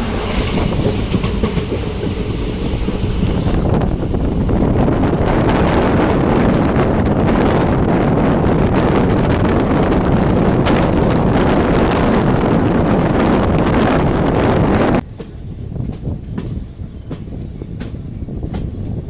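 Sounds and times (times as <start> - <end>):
moving passenger train: 0.0 - 19.0
wind buffeting microphone: 0.0 - 19.0.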